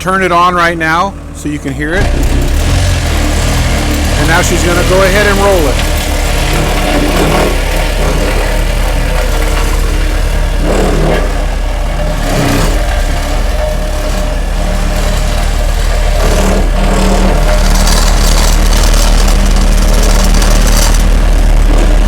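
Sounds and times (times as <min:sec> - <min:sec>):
diesel engine running: 0:00.0 - 0:22.0
vibratory roller deep hum: 0:00.0 - 0:22.0.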